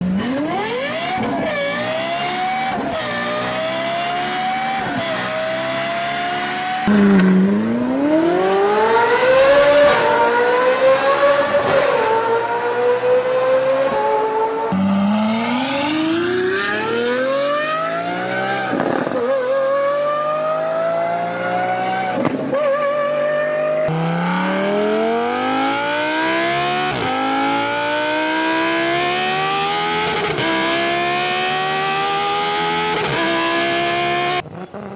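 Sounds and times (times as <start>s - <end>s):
racing car engines accelerating: 0.0s - 34.9s.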